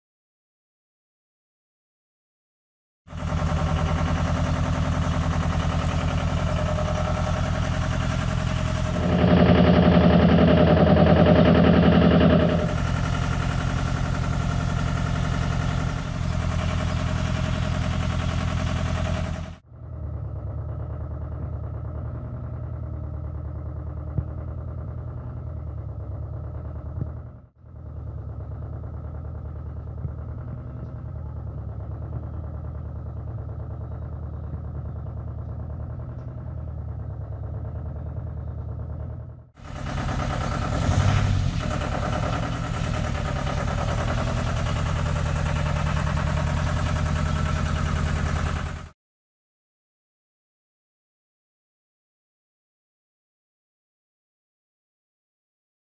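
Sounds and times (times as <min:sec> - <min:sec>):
tractor engine running: 0:03.1 - 0:49.0.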